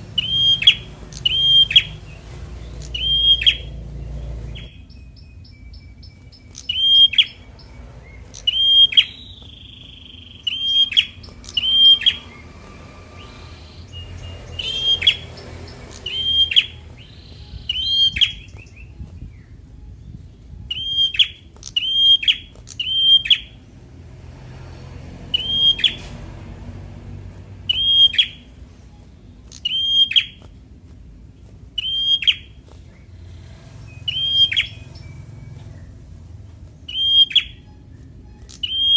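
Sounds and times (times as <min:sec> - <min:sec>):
bird calling: 0:00.0 - 0:23.8, 0:25.3 - 0:26.4, 0:27.5 - 0:30.7, 0:31.3 - 0:38.9.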